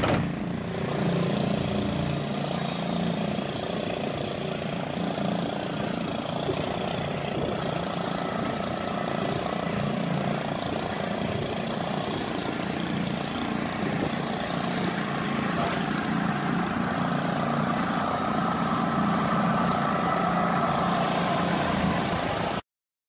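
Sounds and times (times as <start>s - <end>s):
lawn mower engine running: 0.0s - 22.6s.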